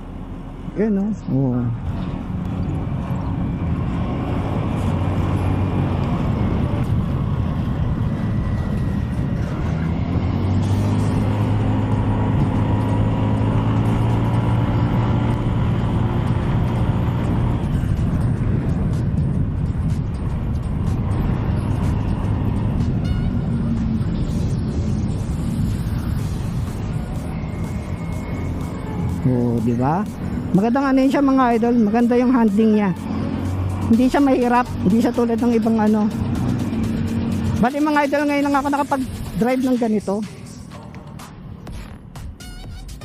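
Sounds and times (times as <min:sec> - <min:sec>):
wind and road noise: 0:00.0 - 0:43.0
scooter engine running: 0:01.9 - 0:39.5.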